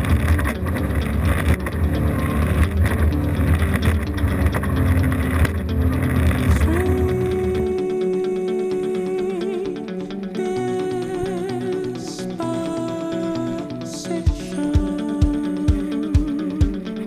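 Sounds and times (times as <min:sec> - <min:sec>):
guitar note sliding up: 0:00.0 - 0:16.5
boat engine drone: 0:00.0 - 0:17.0
song: 0:00.0 - 0:17.0.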